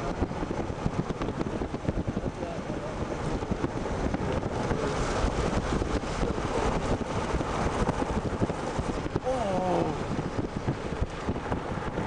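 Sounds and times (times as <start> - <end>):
moving vehicle rumble: 0.0 - 12.0
wind buffeting microphone: 0.0 - 12.0.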